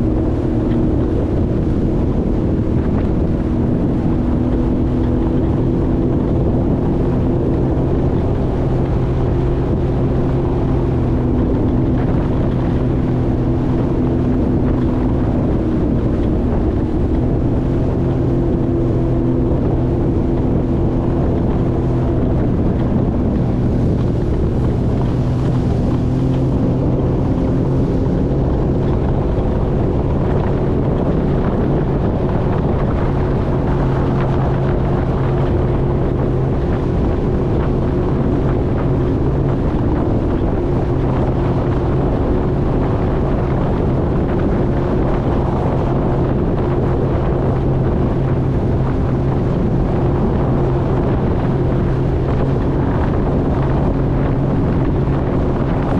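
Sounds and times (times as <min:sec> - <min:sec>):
jet ski engine running: 0:00.0 - 0:55.9
wind buffeting microphone: 0:00.0 - 0:55.9.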